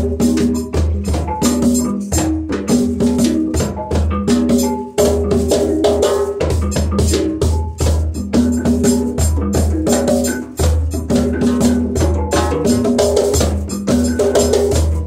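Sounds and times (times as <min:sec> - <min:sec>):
djembe hand drums: 0:00.0 - 0:15.0.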